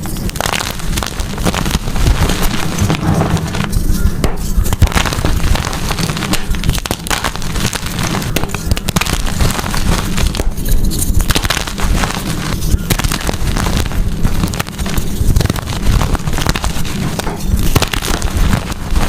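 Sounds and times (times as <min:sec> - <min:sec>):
chalk being crushed: 0:00.0 - 0:19.0.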